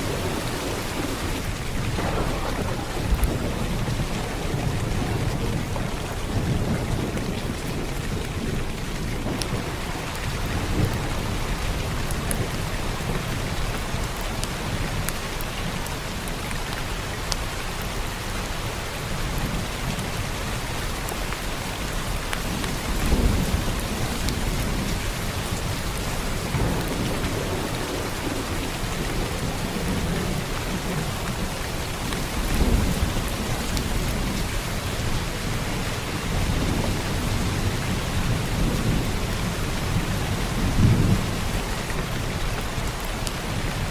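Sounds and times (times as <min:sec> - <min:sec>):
rolling thunder: 0:00.0 - 0:15.1, 0:22.5 - 0:43.9
heavy rain: 0:00.0 - 0:43.9.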